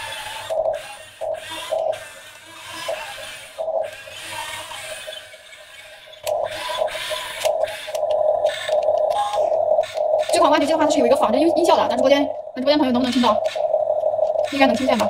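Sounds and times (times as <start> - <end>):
electric gear motors whirring: 0.0 - 12.2, 13.0 - 15.0.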